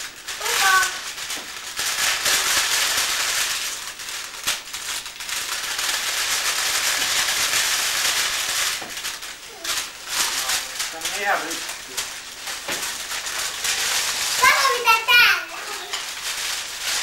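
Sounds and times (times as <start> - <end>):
plastic sheet crinkling: 0.0 - 17.0.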